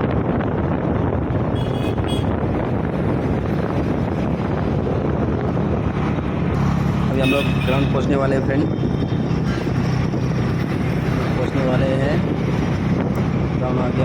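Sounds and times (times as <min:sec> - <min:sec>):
scooter engine and road noise: 0:00.0 - 0:14.0
wind buffeting microphone: 0:00.0 - 0:14.0.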